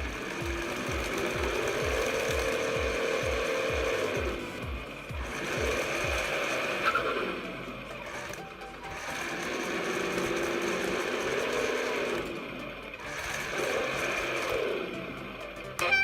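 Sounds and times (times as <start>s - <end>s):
simulated engine revving: 0.0s - 16.0s.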